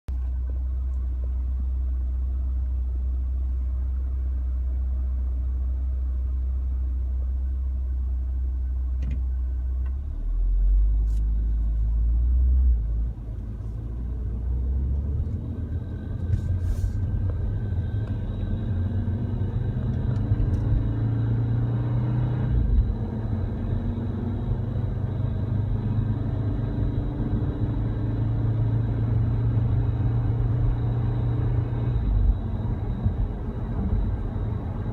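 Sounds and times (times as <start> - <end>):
low rumble inside car: 0.1 - 34.9.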